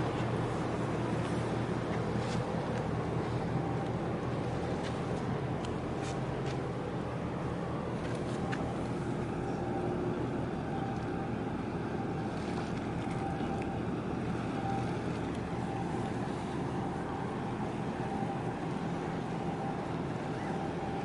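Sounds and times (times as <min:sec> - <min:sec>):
boat engines droning: 0:00.0 - 0:21.0
water wash: 0:00.0 - 0:21.0
wind: 0:00.0 - 0:21.0.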